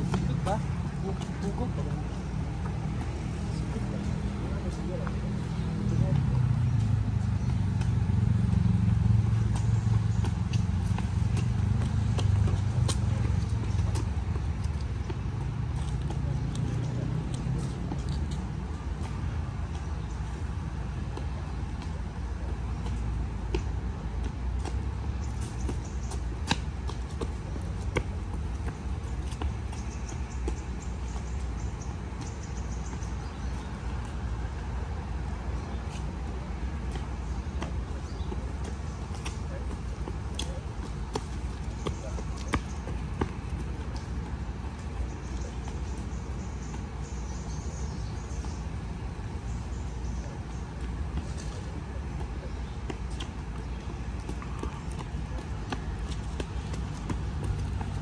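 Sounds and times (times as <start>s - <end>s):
low outdoor rumble: 0.0s - 58.0s
running footsteps on concrete: 0.0s - 58.0s.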